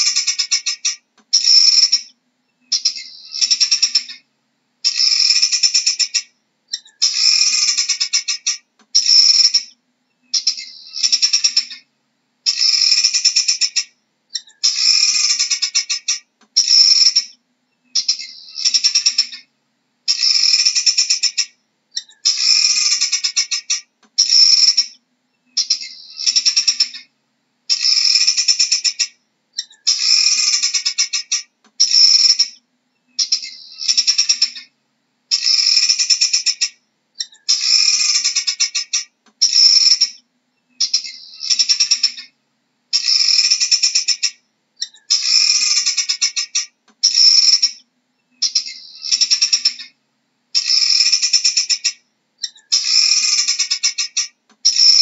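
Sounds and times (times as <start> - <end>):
guineafowl rattling chatter: 0.0 - 4.2, 4.8 - 11.9, 12.5 - 17.4, 18.0 - 19.5, 20.1 - 25.0, 25.6 - 27.1, 27.7 - 32.6, 33.2 - 34.7, 35.3 - 40.2, 40.8 - 42.3, 42.9 - 47.8, 48.4 - 50.0, 50.6 - 55.0.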